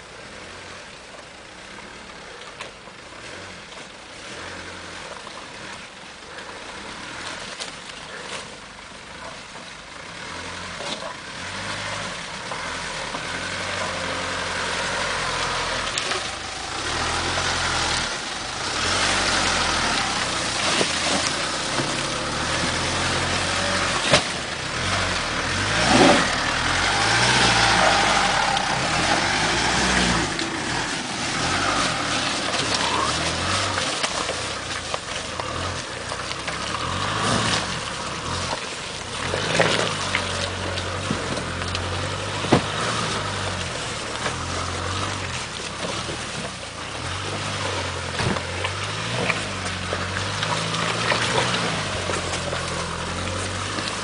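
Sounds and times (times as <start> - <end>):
engine running under load: 0.0 - 54.0
tyres churning mud: 0.0 - 54.0.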